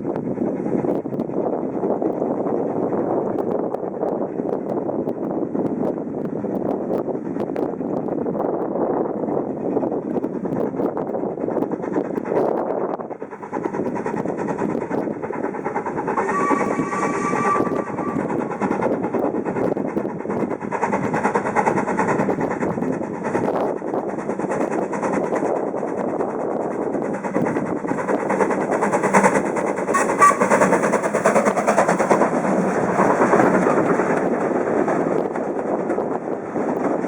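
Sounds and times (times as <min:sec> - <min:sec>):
train wheels rattling on rails: 0:00.0 - 0:37.0.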